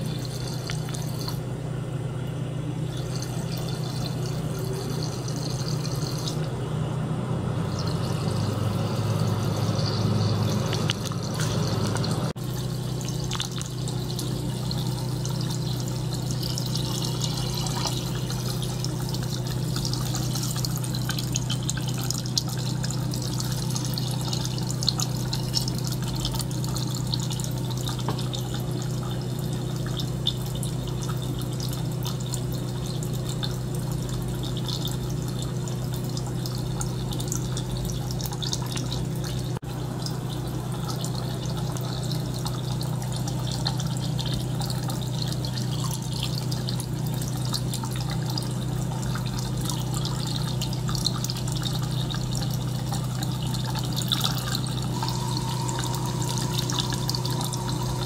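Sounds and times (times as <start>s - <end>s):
water trickling and gurgling: 0.0s - 1.6s, 2.7s - 6.6s, 7.6s - 58.0s
pump humming: 0.0s - 58.0s.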